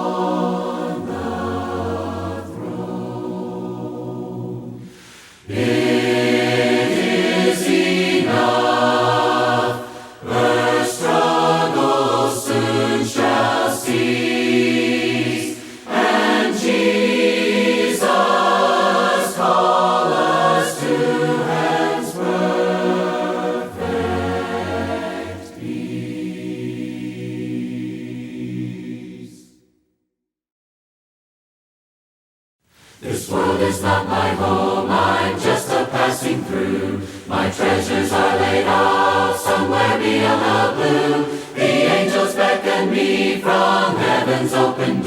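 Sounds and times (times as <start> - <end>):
group singing hymn unaccompanied: 0.0 - 29.6, 33.0 - 45.0.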